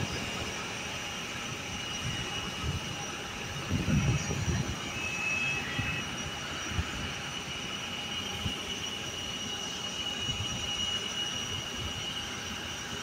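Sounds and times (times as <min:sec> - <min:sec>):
jet engine whine: 0:00.0 - 0:13.0.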